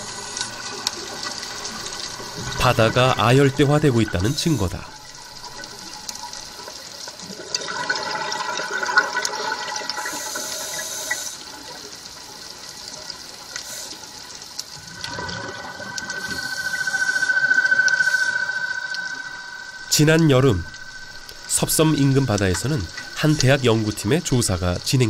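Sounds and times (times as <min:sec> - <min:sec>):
water rushing underwater: 0:00.0 - 0:13.1, 0:14.4 - 0:25.0.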